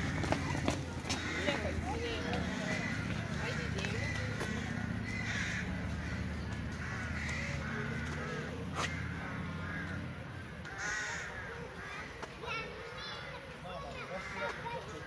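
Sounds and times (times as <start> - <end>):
crows cawing: 0.0 - 13.4, 14.0 - 15.0.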